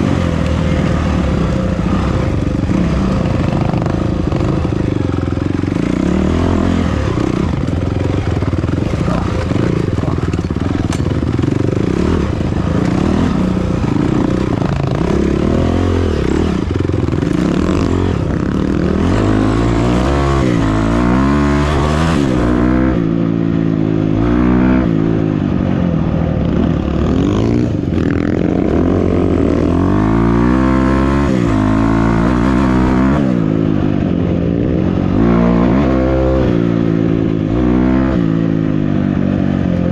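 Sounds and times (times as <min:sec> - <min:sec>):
off-road vehicle engine revving: 0:00.0 - 0:25.4, 0:26.4 - 0:34.1, 0:34.7 - 0:39.9.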